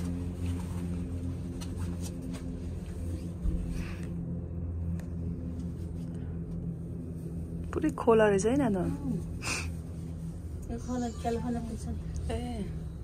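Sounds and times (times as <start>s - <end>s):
gondola cabin hum: 0.0s - 13.0s.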